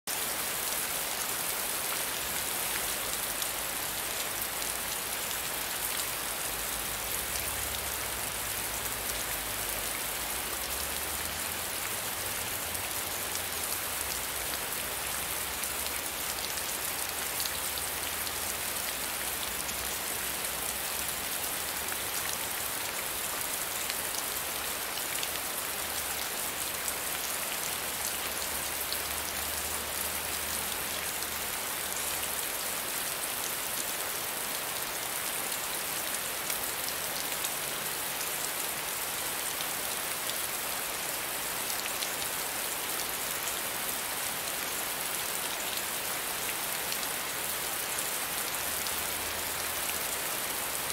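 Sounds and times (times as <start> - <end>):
rain falling on leaves: 0.1 - 50.9.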